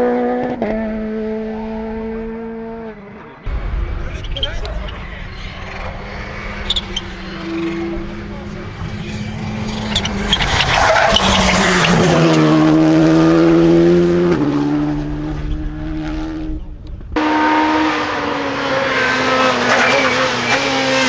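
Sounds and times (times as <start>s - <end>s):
car engine running hard: 0.0s - 21.0s.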